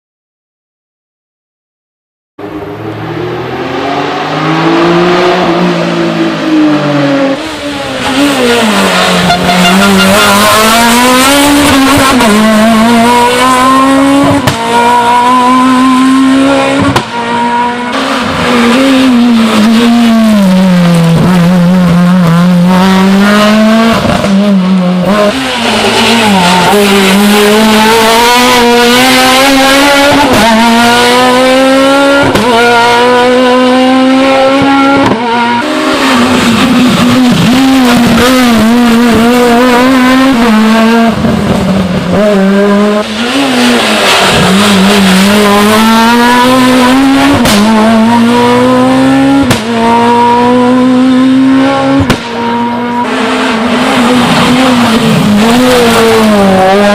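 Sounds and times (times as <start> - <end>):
rally car engines revving: 2.4 - 56.9.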